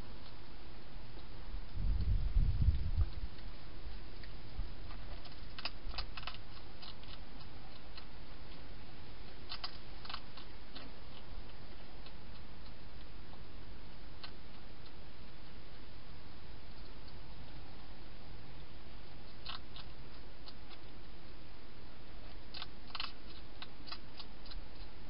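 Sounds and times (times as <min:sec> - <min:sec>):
hedgehog crunching food: 0:00.0 - 0:25.0.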